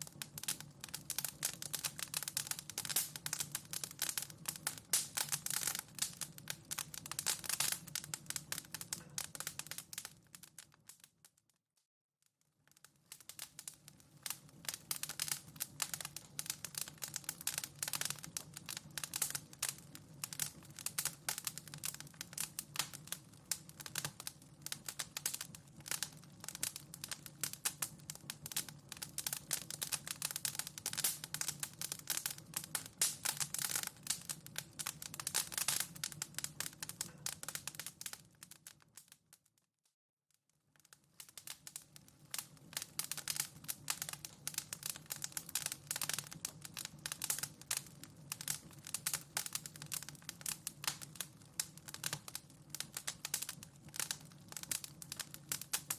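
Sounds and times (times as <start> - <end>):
wood fire crackling: 0.0 - 11.4, 12.6 - 39.4, 40.8 - 55.9.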